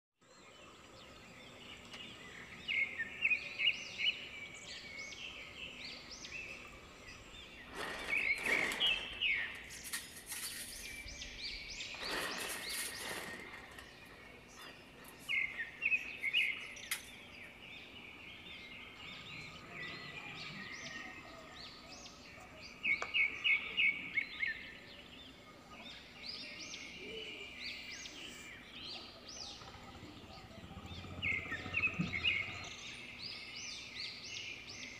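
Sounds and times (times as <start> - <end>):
birds singing: 0.2 - 34.9.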